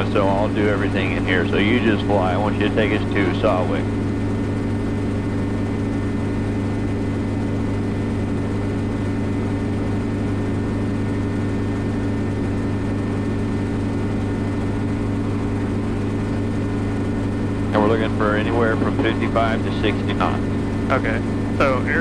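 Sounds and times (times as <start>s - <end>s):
helicopter cabin drone: 0.0s - 22.0s.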